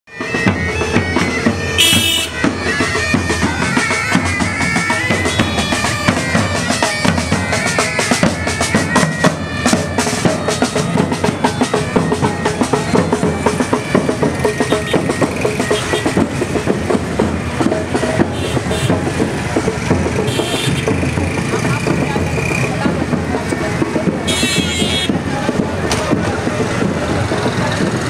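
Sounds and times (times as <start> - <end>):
bagpipes playing over drone: 0.1 - 22.0, 22.6 - 25.7
bass and snare drum beats: 0.1 - 28.0.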